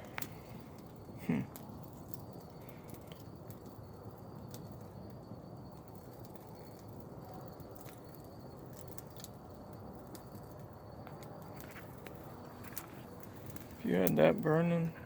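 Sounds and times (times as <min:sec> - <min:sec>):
campfire crackling and popping: 0:00.0 - 0:15.0
fire low rush: 0:00.0 - 0:15.0.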